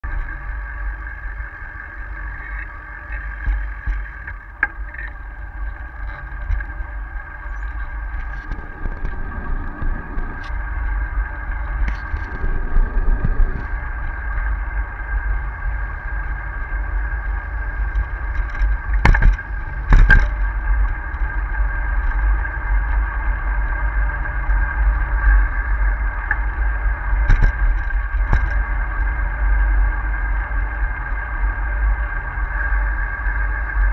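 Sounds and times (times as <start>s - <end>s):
bicycle rolling: 0.0s - 33.9s
steady high whine: 0.0s - 33.9s
wind rumbling on microphone: 0.0s - 33.9s.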